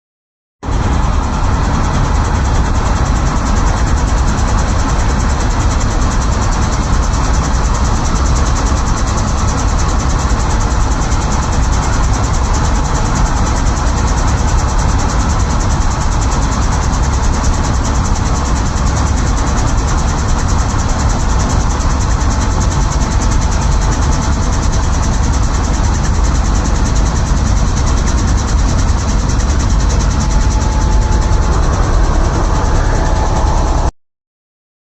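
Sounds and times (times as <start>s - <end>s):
helicopter engine and rotor: 0.6s - 33.9s.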